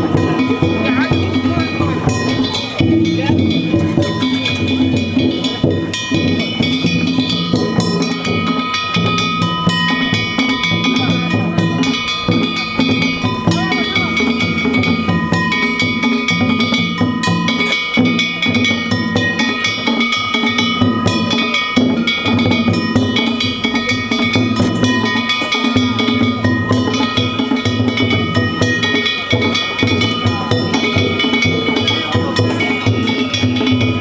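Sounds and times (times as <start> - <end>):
metal hand gongs clanging: 0.0 - 34.0
taiko drum rapid strokes: 0.0 - 34.0.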